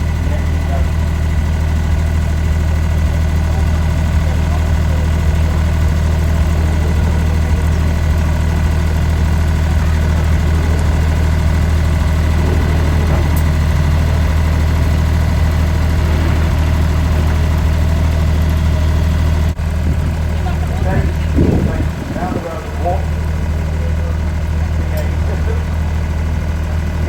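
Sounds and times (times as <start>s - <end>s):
engine idling drone: 0.0s - 27.0s.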